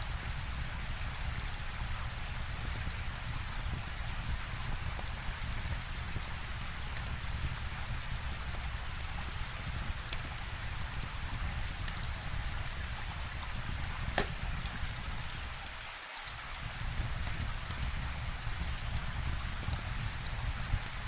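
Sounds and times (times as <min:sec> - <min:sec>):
steady rain hiss: 0:00.0 - 0:21.0
wood fire crackling and popping: 0:00.1 - 0:21.0.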